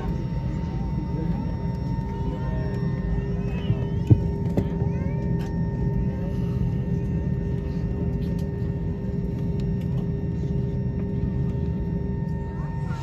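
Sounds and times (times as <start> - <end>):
aircraft cabin low rumble: 0.0 - 13.0
jet engine whine: 0.0 - 13.0.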